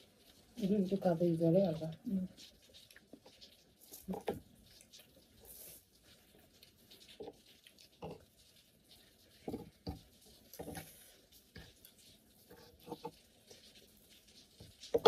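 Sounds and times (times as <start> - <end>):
chewing: 1.9 - 15.0.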